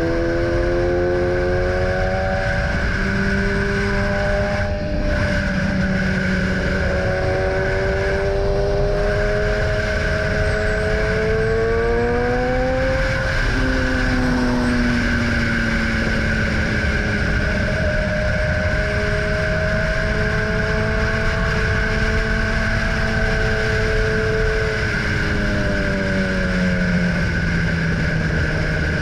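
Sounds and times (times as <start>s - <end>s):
motorcycle engine running hard: 0.0s - 29.0s.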